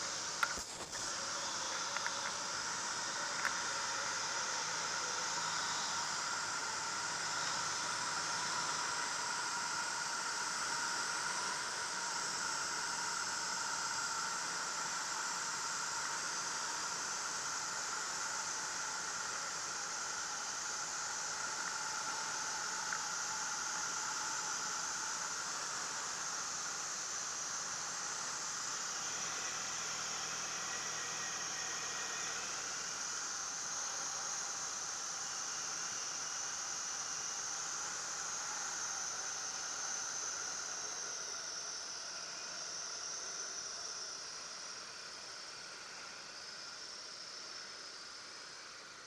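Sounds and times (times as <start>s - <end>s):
plane engine: 0.0s - 44.6s.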